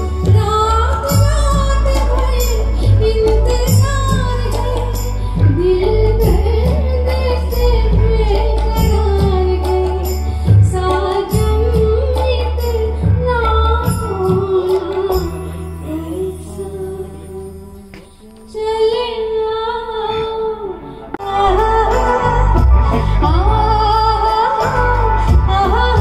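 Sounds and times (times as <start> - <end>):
tabla: 0.0 - 26.0
woman singing into a microphone: 0.0 - 26.0.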